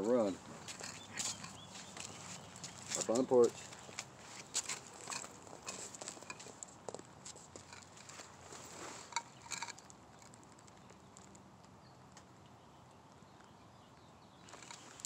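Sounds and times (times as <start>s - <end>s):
light clicks and rustles: 0.6s - 12.3s, 14.5s - 15.0s.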